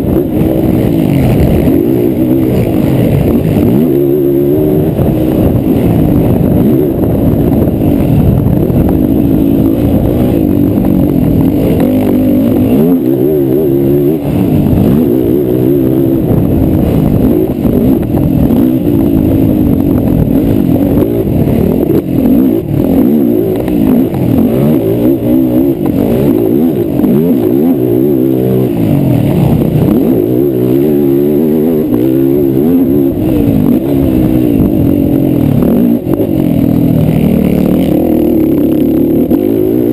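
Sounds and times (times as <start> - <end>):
atv engines revving hard: 0.0 - 39.9.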